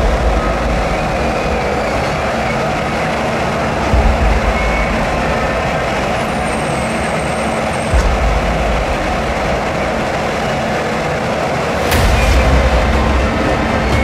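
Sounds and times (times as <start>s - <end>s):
crane rumble: 0.0s - 14.0s
harvester diesel engine drone: 0.0s - 14.0s.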